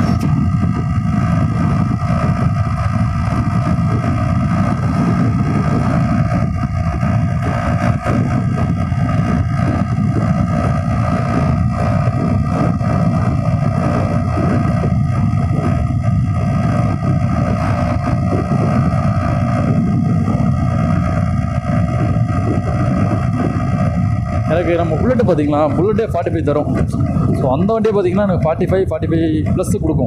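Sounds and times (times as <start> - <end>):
two-stroke motorcycle engine cruising: 0.0 - 30.0
wind buffeting microphone: 0.0 - 30.0.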